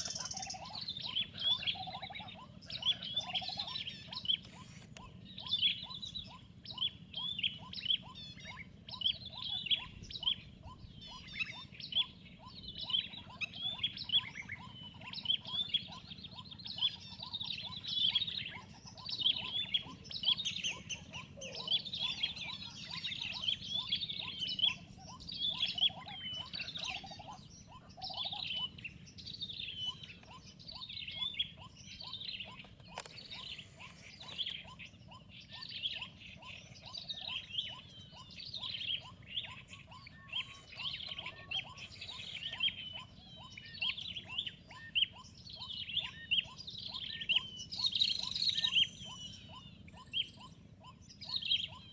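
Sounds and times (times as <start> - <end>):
birds chirping and whistling: 0.0 - 51.9.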